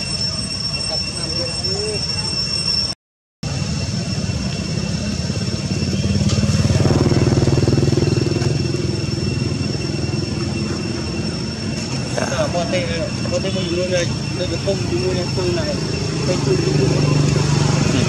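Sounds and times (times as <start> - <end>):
high whine: 0.0 - 18.0
vehicle engine running: 3.5 - 18.0.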